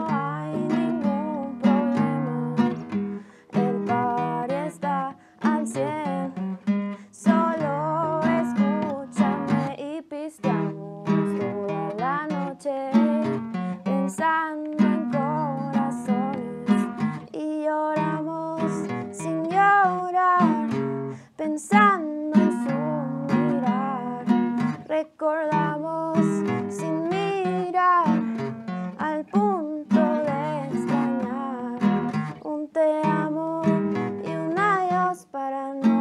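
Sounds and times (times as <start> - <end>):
strummed acoustic guitar: 0.0 - 35.2, 35.8 - 36.0
woman singing a ballad: 0.0 - 36.0.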